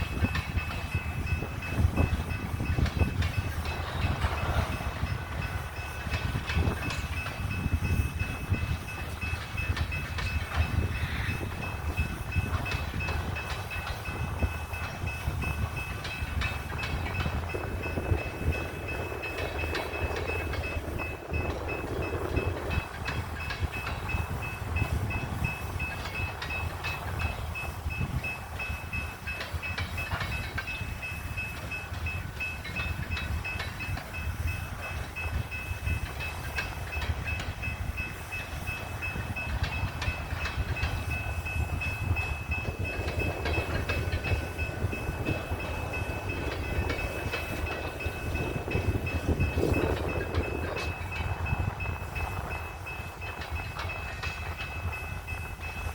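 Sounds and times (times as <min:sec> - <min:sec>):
freight cars rumbling on rails: 0:00.0 - 0:55.9
wheels clicking over rail joints: 0:00.0 - 0:55.9.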